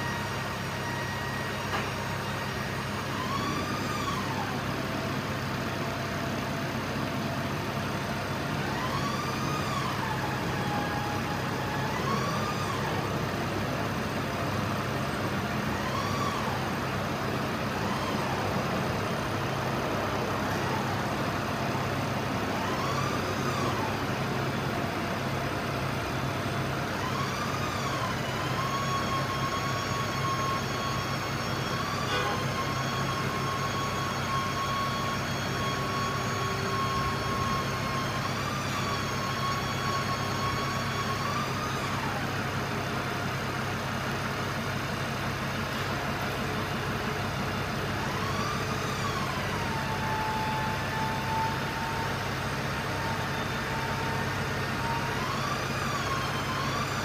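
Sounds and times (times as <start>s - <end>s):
hydraulic pump hum: 0.0s - 57.0s.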